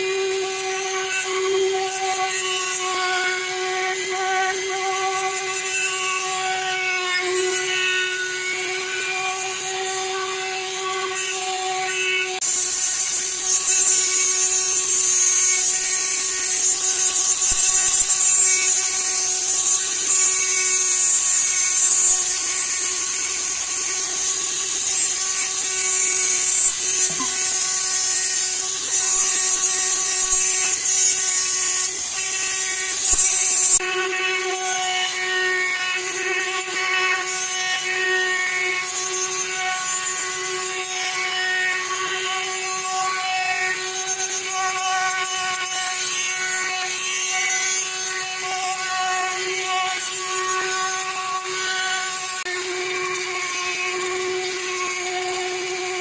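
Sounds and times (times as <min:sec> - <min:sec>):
electric polishing tool motor: 0:00.0 - 0:56.0.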